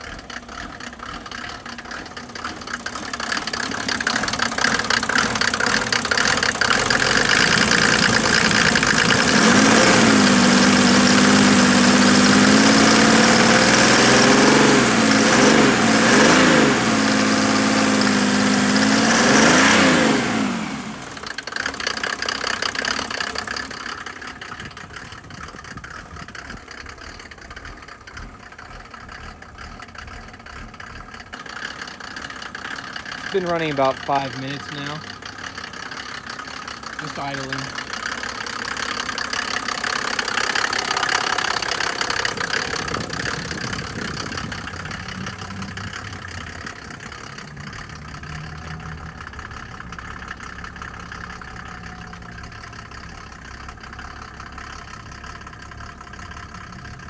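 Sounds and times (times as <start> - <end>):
diesel engine revving and idling: 0.0 - 57.0.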